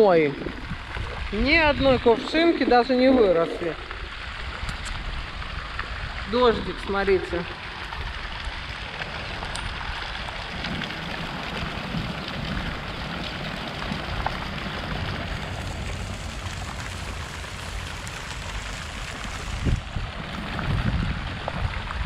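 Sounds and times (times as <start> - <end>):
light rain hissing: 0.0 - 20.9.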